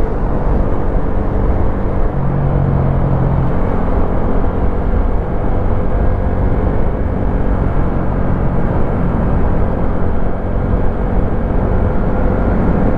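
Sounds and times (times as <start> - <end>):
low steady hum: 0.0 - 12.9
motorcycle engine rumbling: 0.0 - 12.9.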